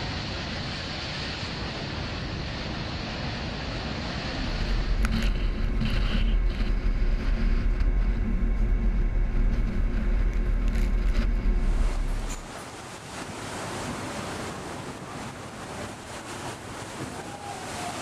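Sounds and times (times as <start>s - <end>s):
waves breaking over deck: 0.0s - 18.0s
wind buffeting microphone: 1.6s - 18.0s.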